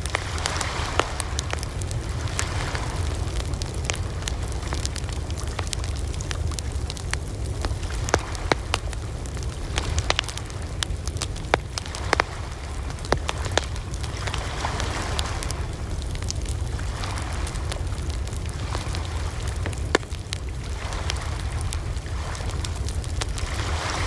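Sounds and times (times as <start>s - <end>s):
rumble of flame: 0.0s - 24.0s
wood fire crackling and popping: 0.0s - 24.0s.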